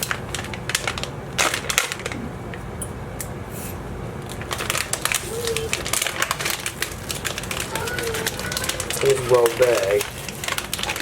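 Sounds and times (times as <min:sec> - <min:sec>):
plastic bag crinkling: 0:00.0 - 0:02.2, 0:04.2 - 0:11.0.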